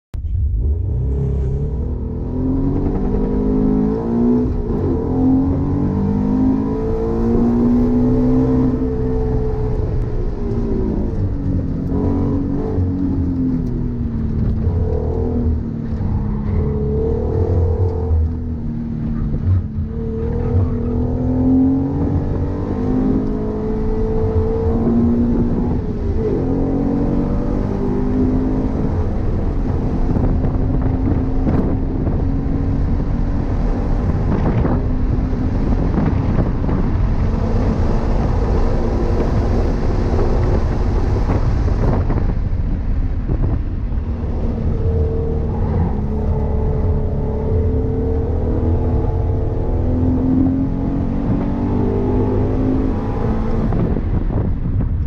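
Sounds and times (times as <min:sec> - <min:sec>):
car engine accelerating: 0:00.1 - 0:55.0.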